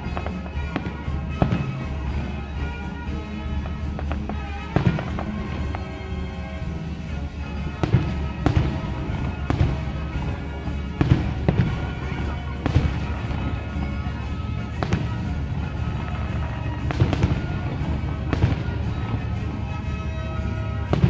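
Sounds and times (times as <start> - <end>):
background music: 0.0 - 21.0
firework bangs: 0.0 - 21.0.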